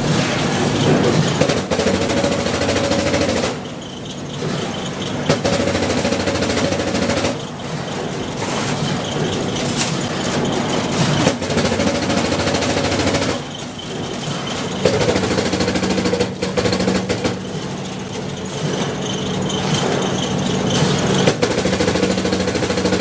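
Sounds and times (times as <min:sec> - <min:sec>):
fast rattle of metal impacts: 0:00.0 - 0:23.0
machine hum: 0:00.0 - 0:23.0.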